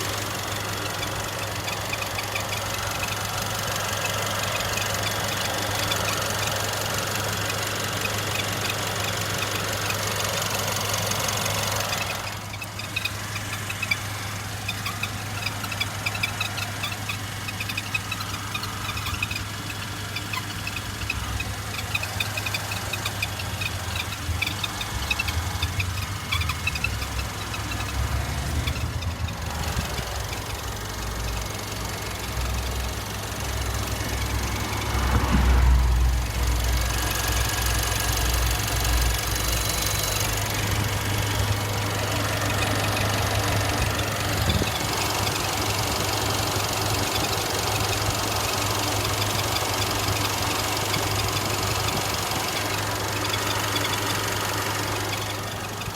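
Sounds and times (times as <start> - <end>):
car engine hum: 0.0 - 55.9
high squeaks: 0.0 - 55.9.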